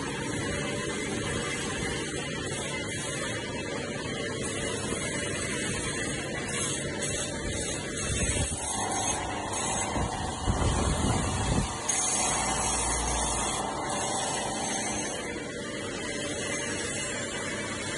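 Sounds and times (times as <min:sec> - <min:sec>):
stone lathe grinding: 0:00.0 - 0:17.9.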